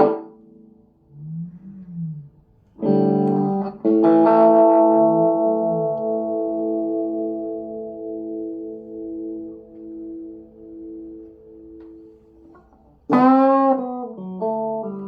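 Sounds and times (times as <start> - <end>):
electric guitar through amp: 0.0 - 15.0.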